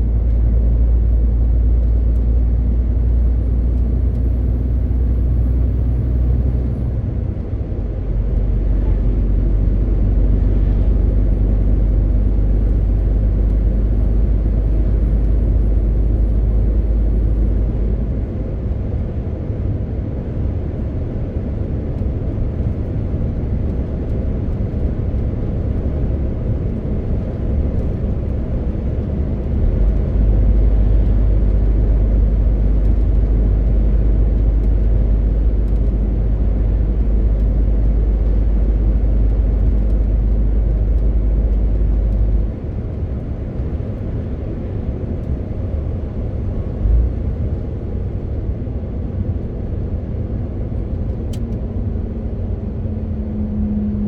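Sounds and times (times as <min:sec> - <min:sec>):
road noise: 0:00.0 - 0:54.0
truck diesel engine rumble: 0:00.0 - 0:54.0.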